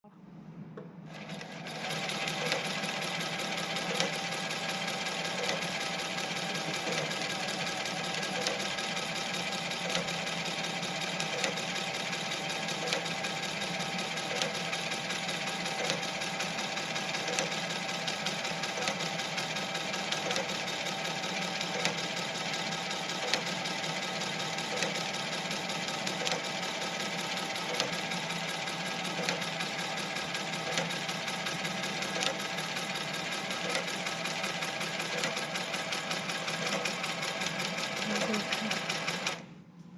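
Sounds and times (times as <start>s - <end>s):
overlock sewing machine running: 1.1s - 39.5s.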